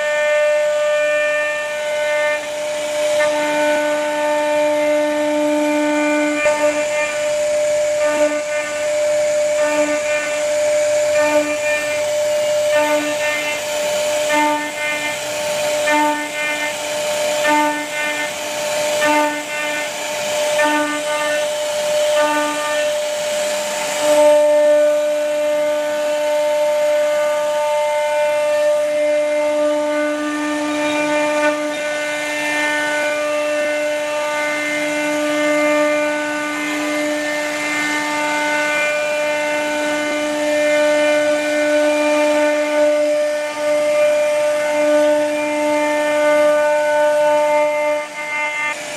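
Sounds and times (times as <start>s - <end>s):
router spindle whine cutting wood: 0.0s - 48.9s.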